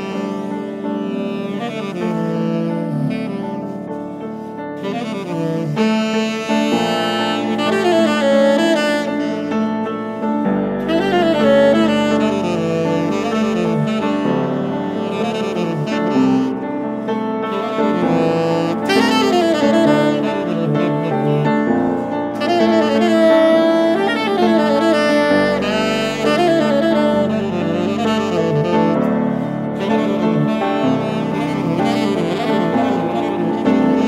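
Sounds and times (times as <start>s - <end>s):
piano accompaniment: 0.0s - 34.0s
saxophone melody: 0.0s - 34.0s.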